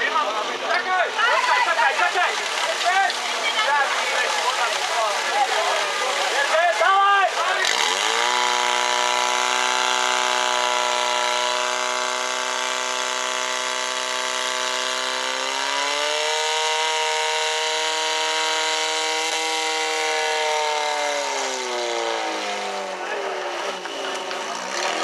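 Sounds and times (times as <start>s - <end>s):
pump engine running at full power: 1.2s - 25.0s.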